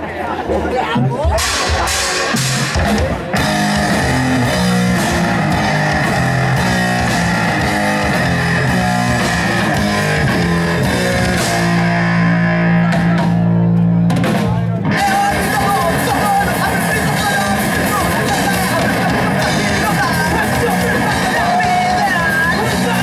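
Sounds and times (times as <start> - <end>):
rock band playing: 0.0 - 23.0.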